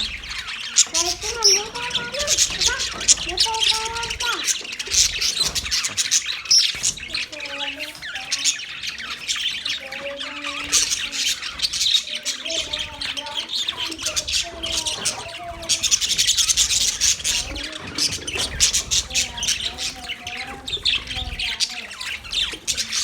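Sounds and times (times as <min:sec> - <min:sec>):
budgerigars chattering and squawking: 0:00.0 - 0:23.0.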